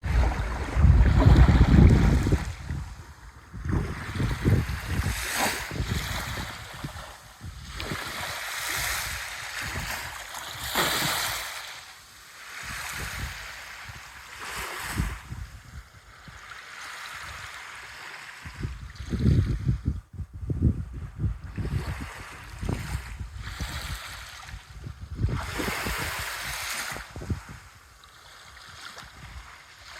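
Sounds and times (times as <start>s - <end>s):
wind buffeting microphone: 0.0s - 11.5s, 12.6s - 16.4s, 18.4s - 27.8s
waves washing up a beach: 0.0s - 19.1s, 21.5s - 29.9s.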